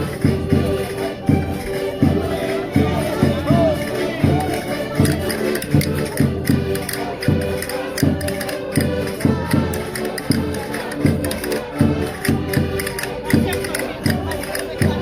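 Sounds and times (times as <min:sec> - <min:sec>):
button accordions playing folk dance: 0:00.0 - 0:15.0.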